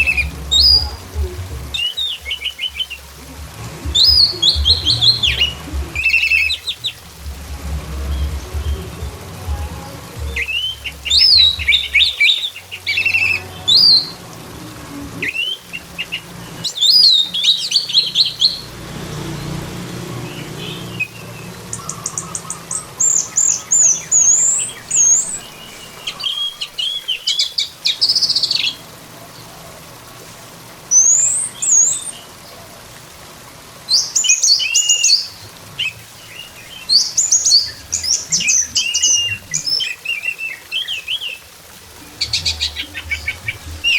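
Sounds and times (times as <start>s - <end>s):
thrush singing: 0.0s - 43.9s.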